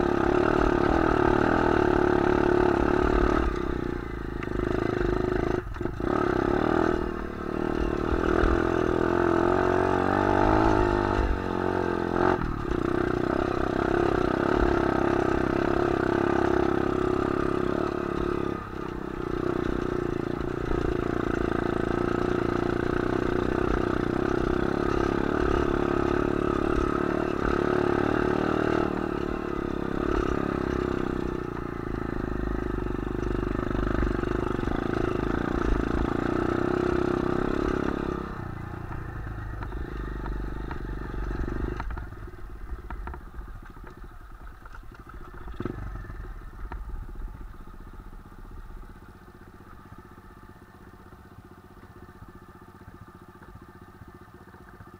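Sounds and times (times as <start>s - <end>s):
bike rattling over rough ground: 0.0s - 54.9s
motorcycle engine running: 0.0s - 54.9s.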